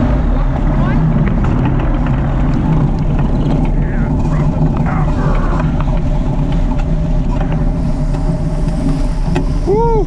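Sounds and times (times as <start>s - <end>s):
powered parachute engine humming: 0.0s - 10.0s.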